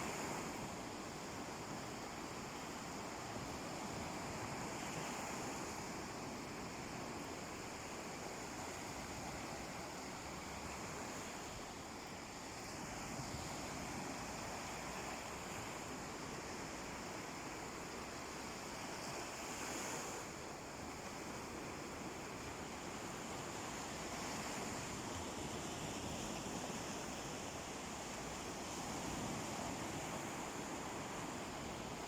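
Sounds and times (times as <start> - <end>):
sea waves washing onto beach: 0.0 - 32.0.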